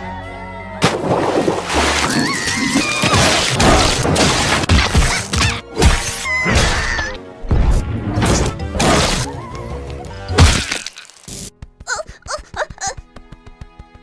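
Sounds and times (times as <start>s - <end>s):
cartoon background music: 0.0s - 14.0s.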